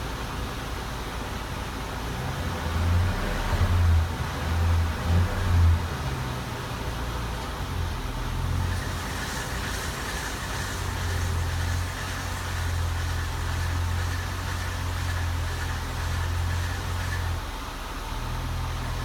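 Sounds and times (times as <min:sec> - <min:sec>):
car engine low drone: 0:00.0 - 0:19.0.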